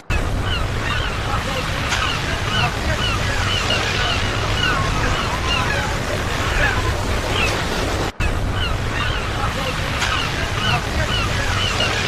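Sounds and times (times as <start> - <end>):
flock of birds chirping: 0.0 - 12.0
ocean surf: 0.0 - 12.0.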